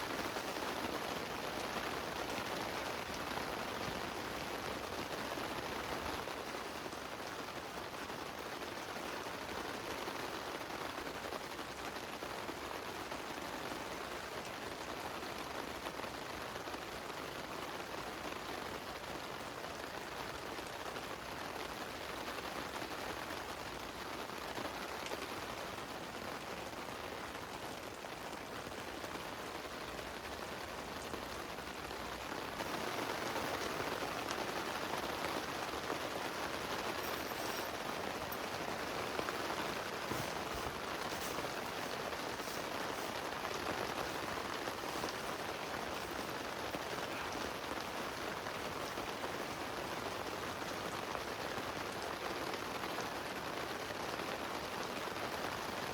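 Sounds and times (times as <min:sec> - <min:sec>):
heavy rain on a tent: 0:00.0 - 0:55.9.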